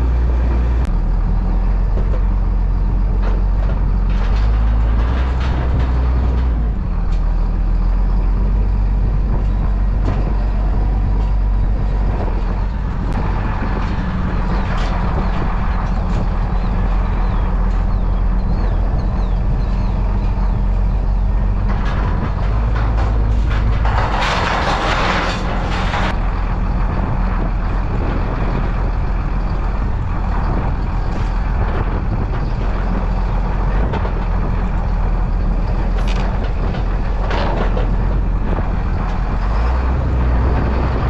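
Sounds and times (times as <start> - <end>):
clanks: 0.0 - 41.0
heavy vehicle engine running: 0.0 - 41.0.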